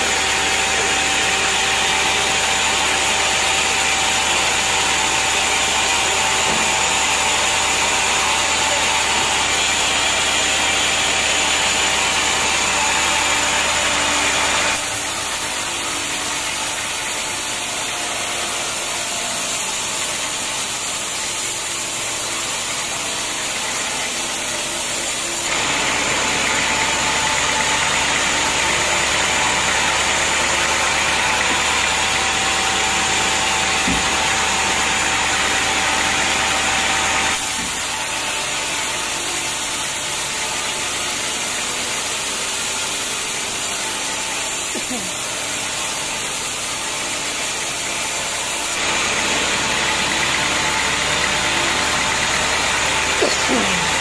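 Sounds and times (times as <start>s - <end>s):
band saw cutting timber: 0.0s - 54.0s.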